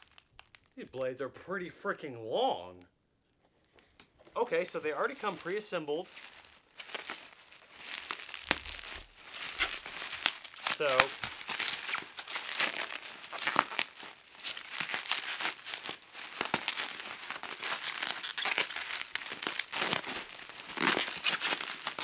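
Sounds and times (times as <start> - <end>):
bubble wrap crinkling: 0.0 - 1.0, 3.4 - 22.0.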